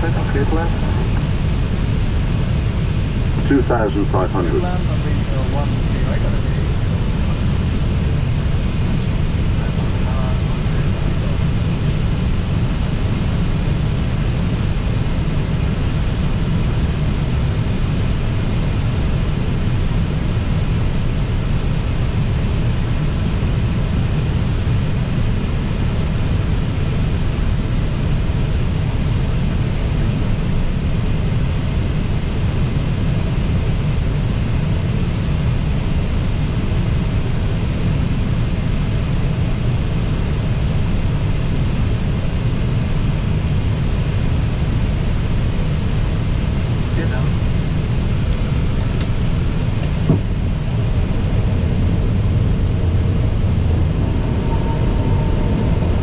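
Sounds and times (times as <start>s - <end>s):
jet engine noise: 0.0s - 56.0s.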